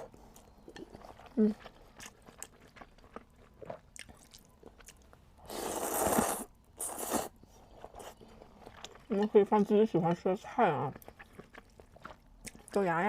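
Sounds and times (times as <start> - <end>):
noisy noodle chewing: 0.0 - 13.0.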